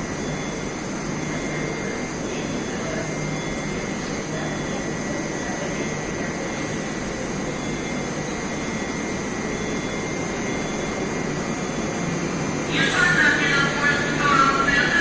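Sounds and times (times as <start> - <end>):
metro station rumble and hiss: 0.0 - 15.0.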